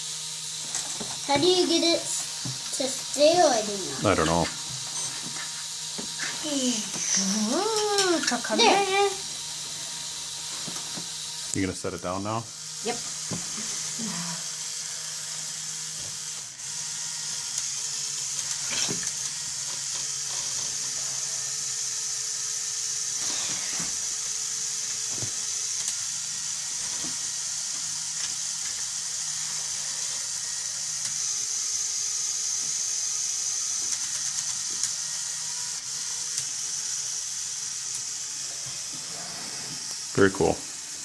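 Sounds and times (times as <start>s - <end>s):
small electric motors whirring: 0.0s - 41.0s.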